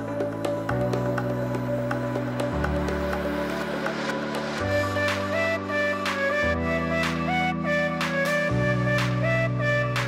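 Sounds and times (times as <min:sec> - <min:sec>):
melody over chords and beat: 0:00.0 - 0:10.0.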